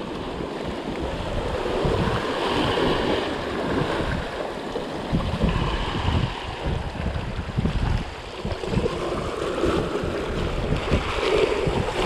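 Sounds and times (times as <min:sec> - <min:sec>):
sea surf washing over rocks: 0:00.0 - 0:12.0
wind gusting on microphone: 0:00.0 - 0:12.0.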